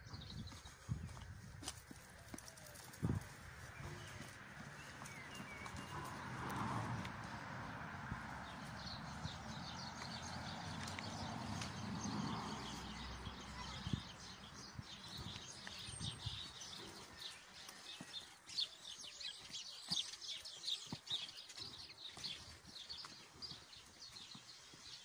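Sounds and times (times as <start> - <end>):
soft footsteps: 0.0 - 12.9, 14.9 - 25.0
songbirds chirping and singing: 0.0 - 25.0.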